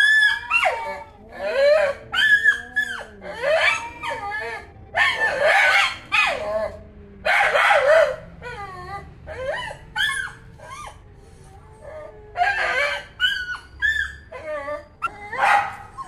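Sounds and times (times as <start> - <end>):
cats yowling: 0.0 - 16.0.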